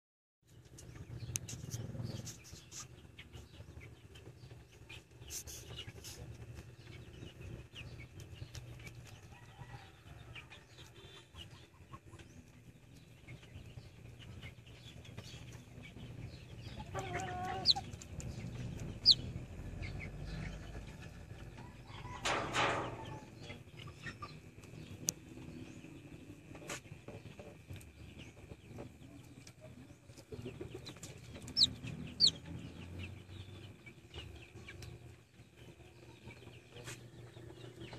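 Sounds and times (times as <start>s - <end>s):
chick peeping: 0.6s - 37.9s.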